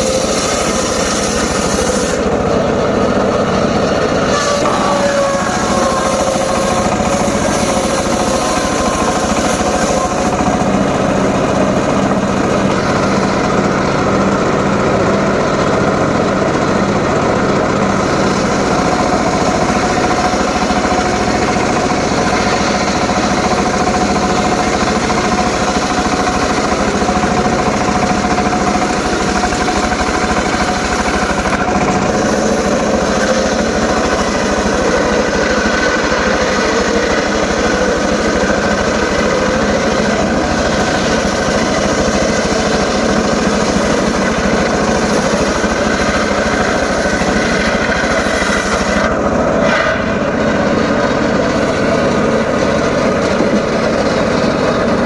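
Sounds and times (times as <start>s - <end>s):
circular saw cutting logs: 0.0s - 55.0s.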